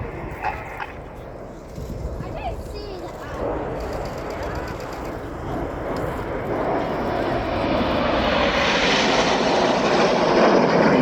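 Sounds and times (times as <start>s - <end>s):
jets roaring overhead: 0.0s - 11.0s.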